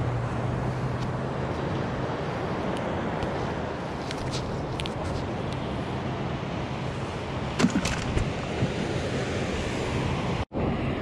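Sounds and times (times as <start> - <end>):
waves breaking: 0.0 - 11.0
wind rumble on microphone: 0.0 - 11.0.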